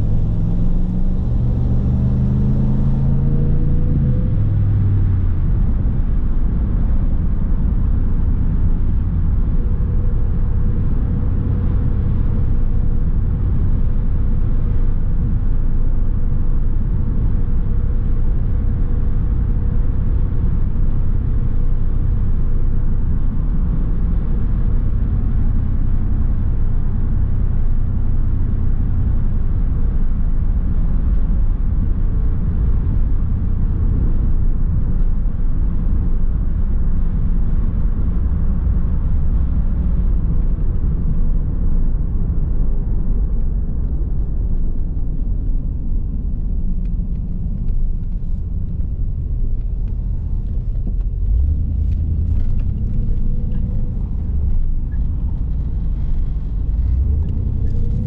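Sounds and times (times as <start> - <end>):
car engine and road rumble: 0.0 - 58.0
faint steady hum: 0.0 - 58.0.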